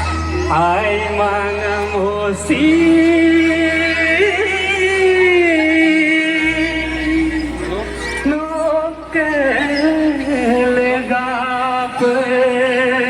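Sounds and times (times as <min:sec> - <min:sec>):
amplified backing music: 0:00.0 - 0:13.0
low bass: 0:00.0 - 0:13.0
person singing live: 0:00.0 - 0:13.0.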